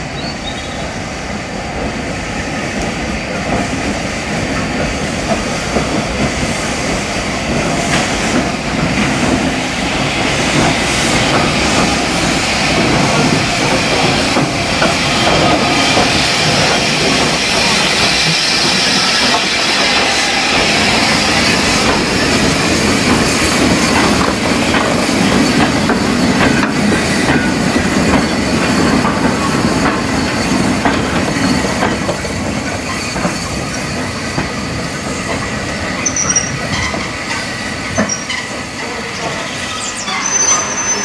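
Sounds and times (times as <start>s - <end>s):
steam locomotive hissing: 0.0s - 41.0s
train wheels clicking over rail joints: 2.7s - 39.6s.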